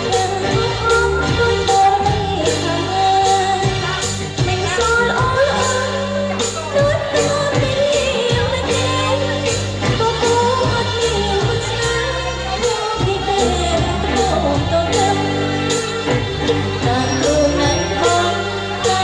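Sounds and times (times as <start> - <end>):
pop dance song with singer: 0.0 - 19.0.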